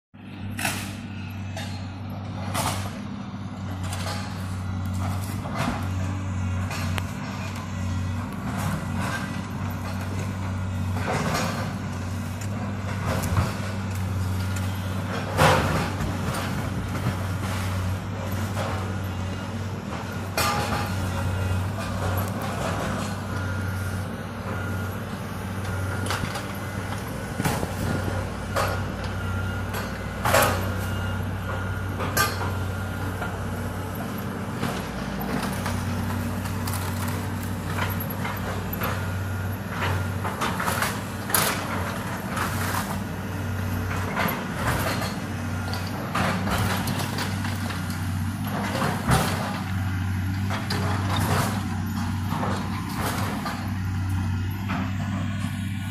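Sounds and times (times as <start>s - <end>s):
excavator diesel engine running: 0.2s - 55.9s.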